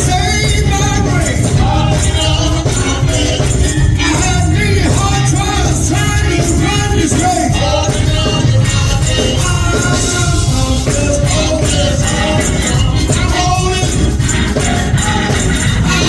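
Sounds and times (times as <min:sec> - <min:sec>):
gospel singing with band: 0:00.0 - 0:16.0
tambourine: 0:00.0 - 0:16.0.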